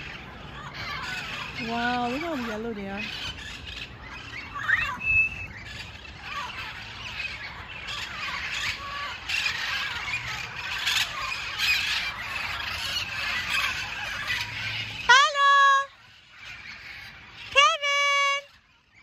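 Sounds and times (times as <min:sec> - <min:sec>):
parrots squawking and chattering: 0:00.0 - 0:19.0.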